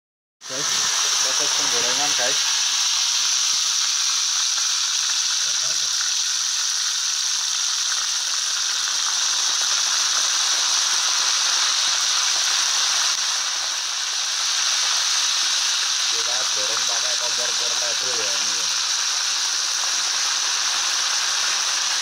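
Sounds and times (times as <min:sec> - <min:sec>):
deep-frying sizzle: 0:00.5 - 0:22.0.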